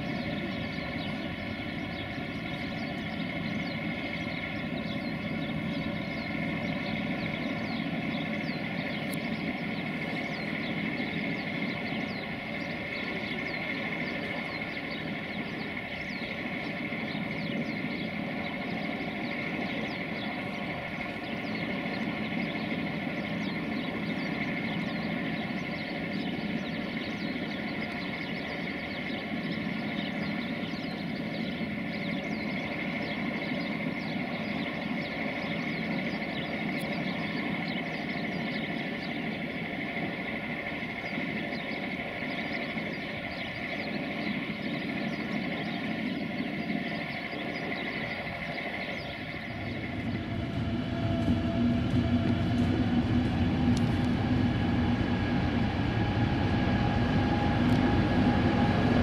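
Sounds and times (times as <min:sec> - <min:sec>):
constant high whine: 0:00.0 - 0:59.0
electric locomotive humming: 0:00.0 - 0:59.0.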